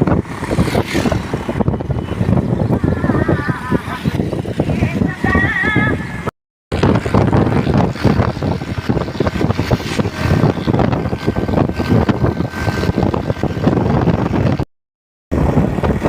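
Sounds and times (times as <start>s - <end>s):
motor vehicle running: 0.0s - 14.7s, 15.3s - 16.0s.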